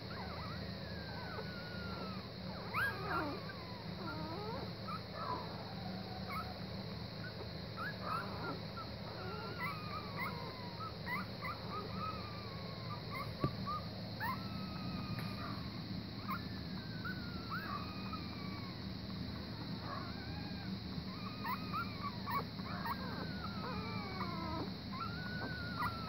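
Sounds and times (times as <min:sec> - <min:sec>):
puppies whimpering and squeaking: 0:00.0 - 0:26.0
steady hum: 0:00.0 - 0:26.0.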